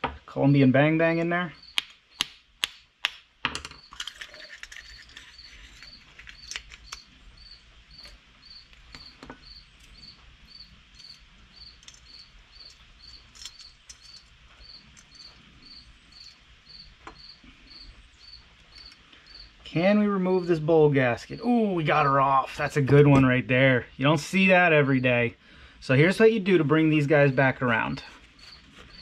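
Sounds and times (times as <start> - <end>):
cricket chirping: 1.5 - 2.3, 3.6 - 22.4, 25.0 - 29.0.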